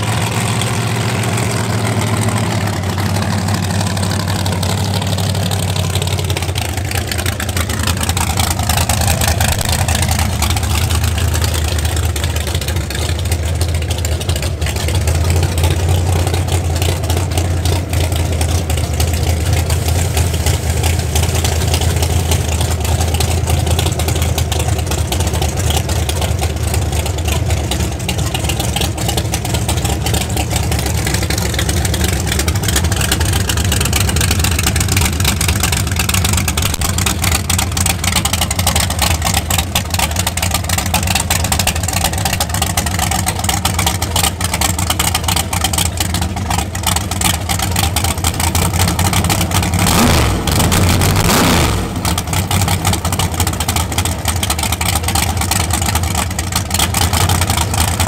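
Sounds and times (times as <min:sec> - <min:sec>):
race car engine idling: 0:00.0 - 0:58.0.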